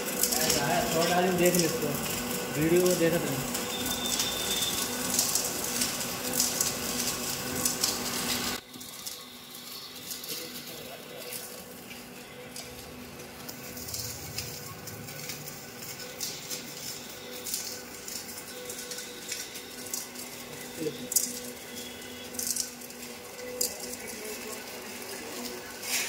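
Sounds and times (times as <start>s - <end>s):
machine motor hum: 0.0s - 25.8s
plastic film crackling: 0.0s - 26.0s.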